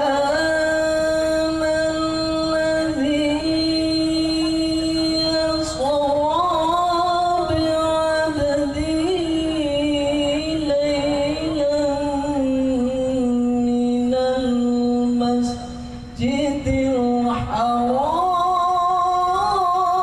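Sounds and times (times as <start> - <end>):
solo voice chanting: 0.0 - 20.0.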